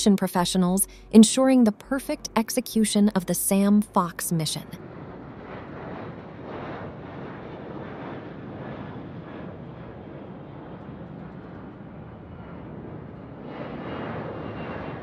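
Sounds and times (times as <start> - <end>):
jet aircraft noise: 0.0 - 15.0.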